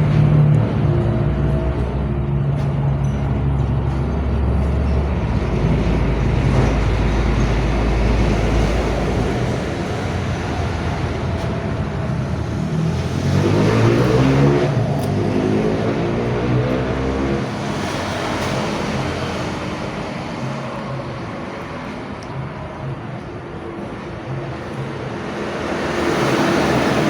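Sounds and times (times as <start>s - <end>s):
road noise: 0.0s - 27.0s
vehicle engine running and revving: 0.0s - 27.0s.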